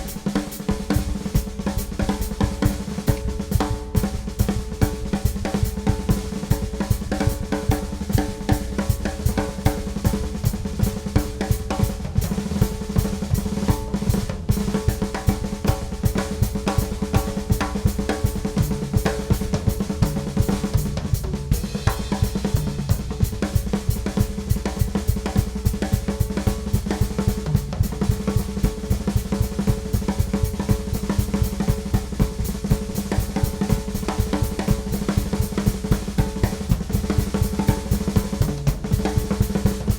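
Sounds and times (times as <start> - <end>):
drum kit played fast: 0.0 - 39.9.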